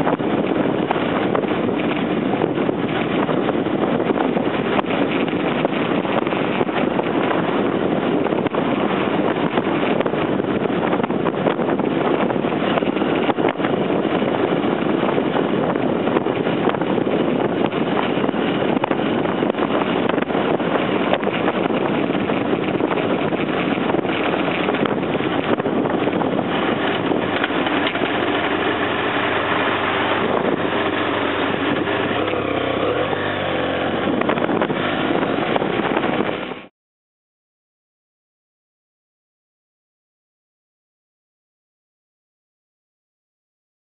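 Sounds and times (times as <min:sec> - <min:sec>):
motorcycle engine running: 0:00.0 - 0:36.7
wind rushing over microphone: 0:00.0 - 0:36.7.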